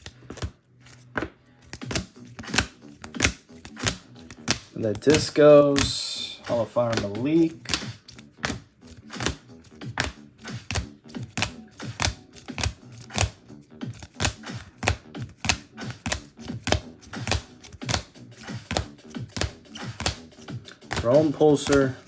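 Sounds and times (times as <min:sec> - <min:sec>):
sharp clicking beat: 0:01.8 - 0:22.0.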